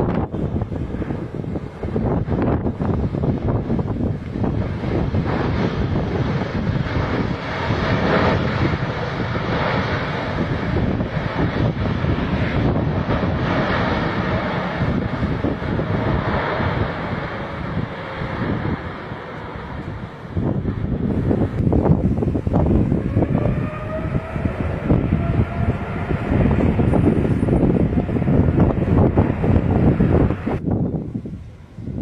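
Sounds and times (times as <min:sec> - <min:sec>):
jet airliner passing: 0:00.0 - 0:32.0
wind buffeting microphone: 0:00.0 - 0:32.0.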